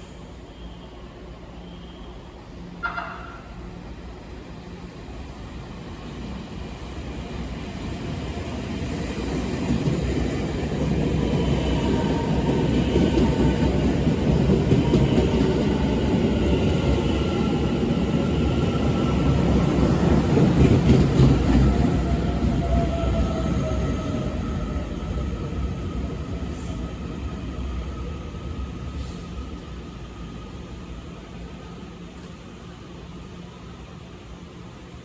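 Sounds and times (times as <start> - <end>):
train rumbling: 2.4 - 32.8.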